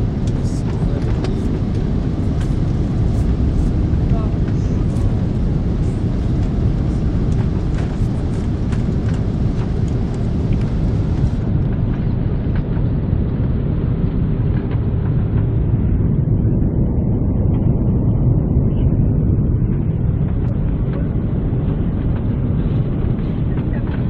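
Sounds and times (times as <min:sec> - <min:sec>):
moving vehicle rumbling: 0:00.0 - 0:24.0.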